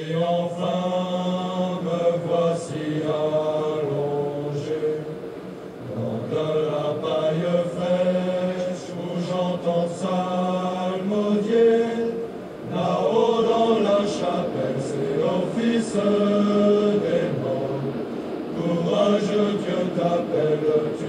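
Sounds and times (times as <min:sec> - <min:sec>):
male choir chanting: 0:00.0 - 0:21.0.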